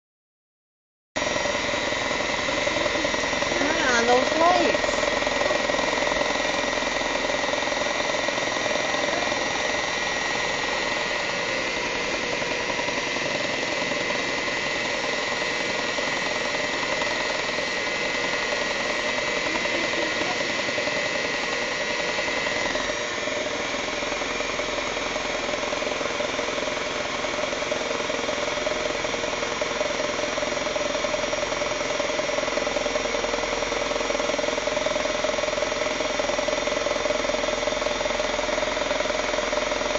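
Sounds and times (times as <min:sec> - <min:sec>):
electric hand mixer whining: 0:01.2 - 0:39.9.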